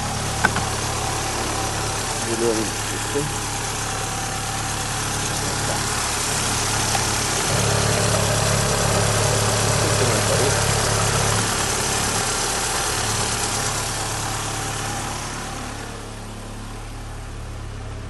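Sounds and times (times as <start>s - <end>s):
petrol engine idling: 0.0s - 18.0s.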